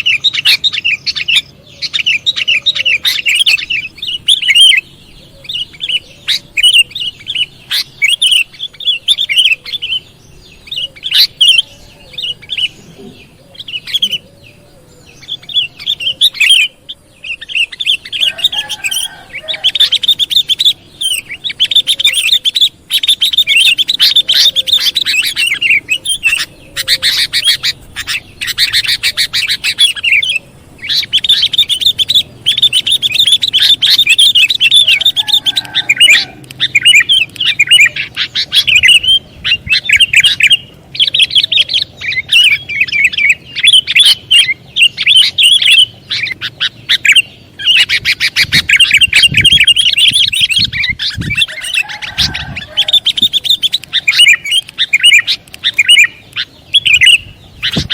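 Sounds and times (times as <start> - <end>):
bird chattering chirps: 0.0 - 57.9.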